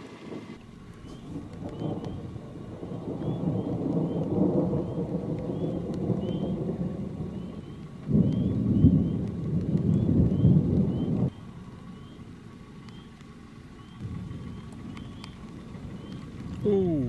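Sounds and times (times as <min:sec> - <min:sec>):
thunder rumbling: 0:00.1 - 0:13.1, 0:13.7 - 0:17.0
loud thunder peal: 0:00.3 - 0:11.4, 0:14.0 - 0:16.6.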